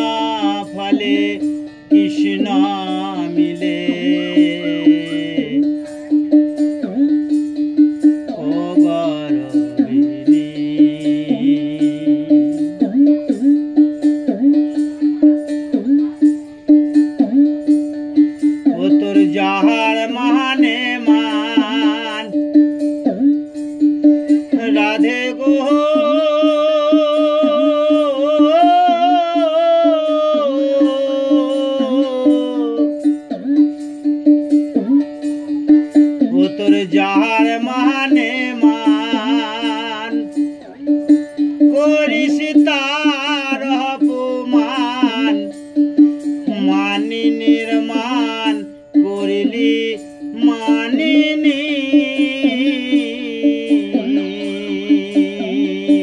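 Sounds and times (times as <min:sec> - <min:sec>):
wavering melody: 0:00.0 - 0:56.0.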